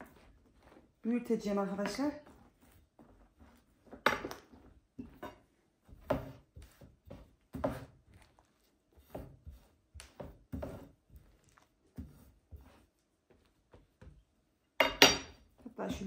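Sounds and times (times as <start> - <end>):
rolling pin rolling over dough: 0.0 - 16.0.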